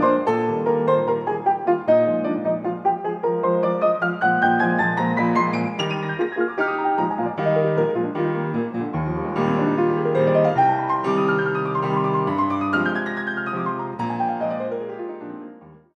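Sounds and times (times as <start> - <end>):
piano music: 0.0 - 15.9.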